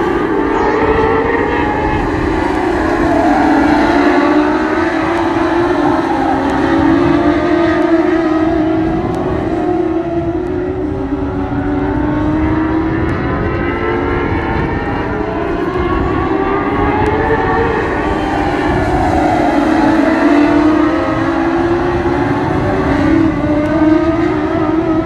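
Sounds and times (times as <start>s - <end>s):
race car engines at high revs: 0.0s - 25.0s.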